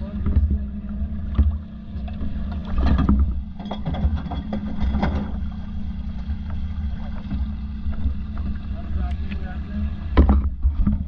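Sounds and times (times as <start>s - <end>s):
low rumble: 0.0s - 11.0s
water lapping and splashing: 0.0s - 11.0s.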